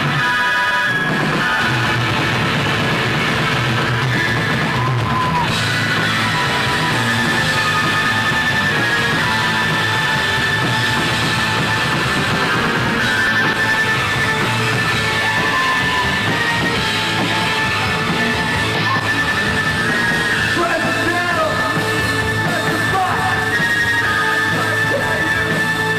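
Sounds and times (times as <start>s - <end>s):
rock band playing live: 0.0s - 25.9s.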